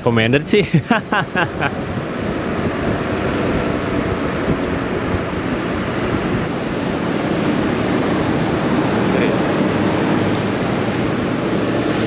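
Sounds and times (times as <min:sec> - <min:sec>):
wind rushing over microphone: 0:00.4 - 0:12.0
scooter engine running at speed: 0:01.7 - 0:12.0.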